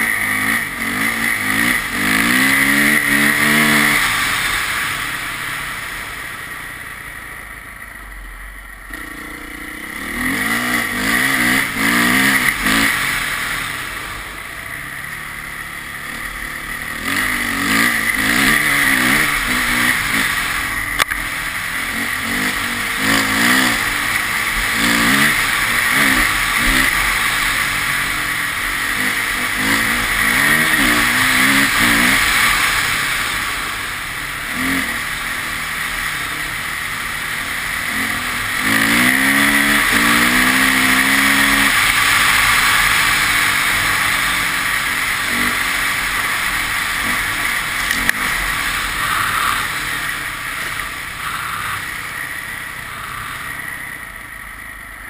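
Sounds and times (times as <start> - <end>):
car engine revving: 0.0 - 6.8, 8.8 - 54.8
road and wind noise: 0.0 - 55.0.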